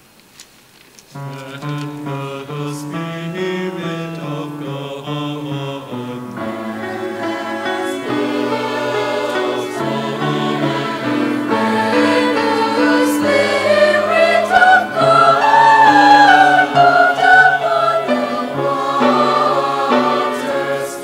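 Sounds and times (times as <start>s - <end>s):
church choir singing: 1.2s - 21.0s.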